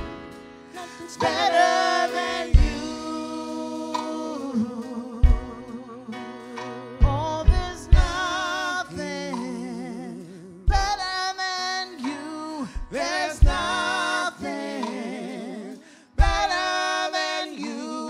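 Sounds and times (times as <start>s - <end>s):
keyboard: 0.0s - 18.0s
women singing: 0.8s - 10.8s, 12.9s - 18.0s.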